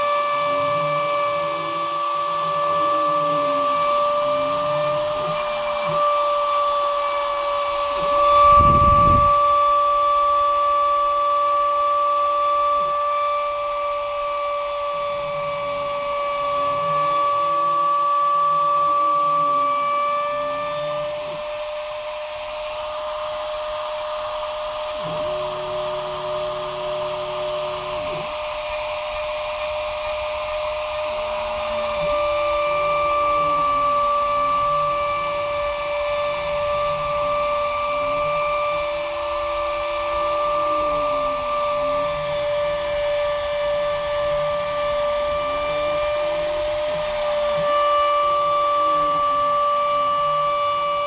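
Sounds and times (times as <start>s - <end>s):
steady high whine: 0.0s - 51.0s
stepper motors whining: 0.0s - 51.0s.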